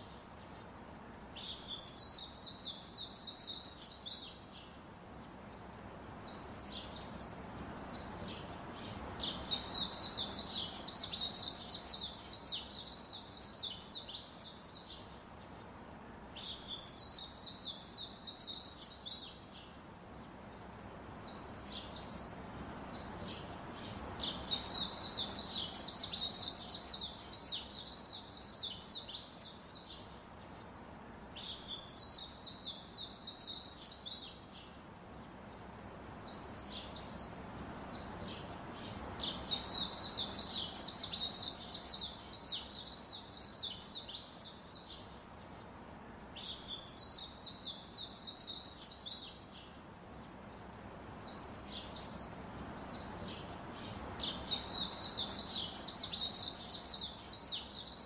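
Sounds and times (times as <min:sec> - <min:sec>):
steady low hiss: 0:00.0 - 0:58.0.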